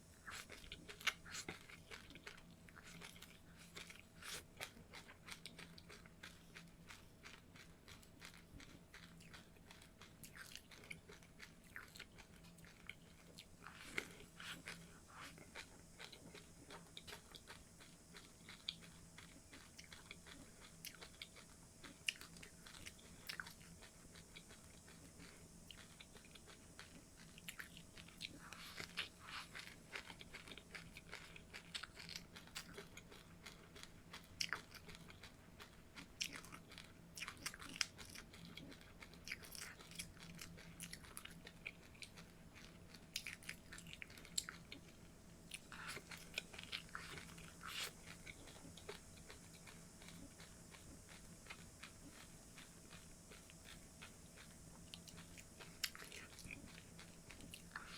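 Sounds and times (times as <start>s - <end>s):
chewing and crunching seeds: 0.0s - 57.9s.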